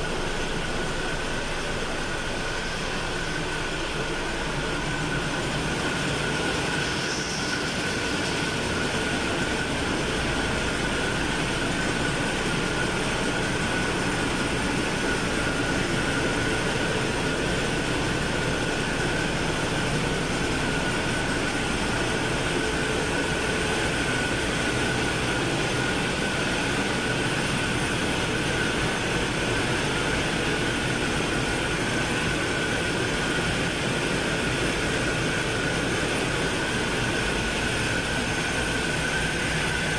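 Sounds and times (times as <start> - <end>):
high-pitched whine: 0.0 - 39.9
ship engine room machinery: 0.0 - 39.9.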